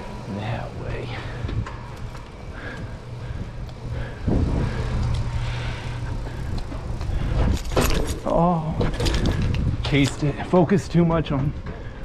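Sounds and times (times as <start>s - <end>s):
bicycle tyres rolling on concrete: 0.0s - 12.0s
wind rumbling on microphone: 0.9s - 10.6s.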